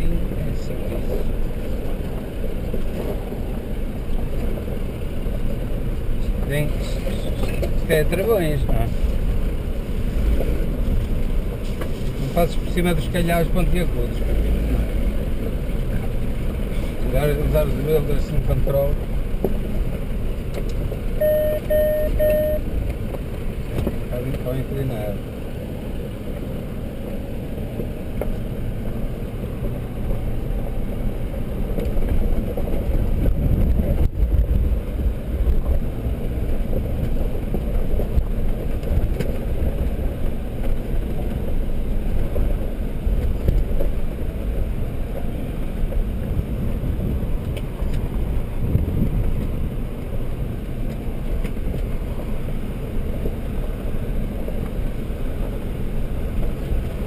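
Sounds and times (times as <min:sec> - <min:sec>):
off-road vehicle rumbling over rough ground: 0:00.0 - 0:57.0.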